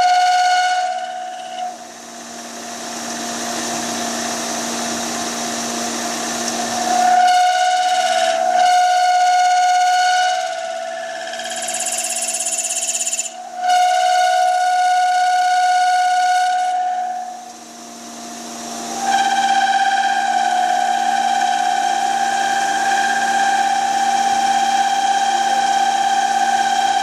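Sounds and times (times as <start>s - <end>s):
lathe high whistling whine: 0.0s - 27.0s.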